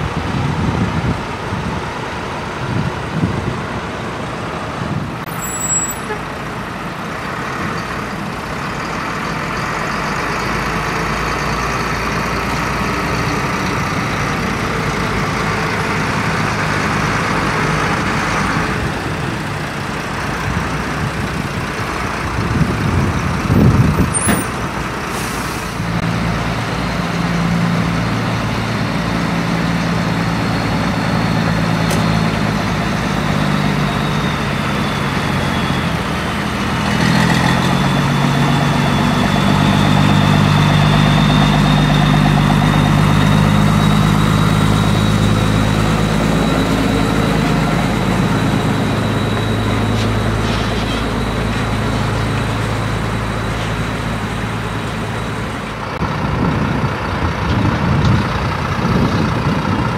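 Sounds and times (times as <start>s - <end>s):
diesel engine droning: 0.0s - 59.9s
lorry engine rumble: 0.0s - 59.9s.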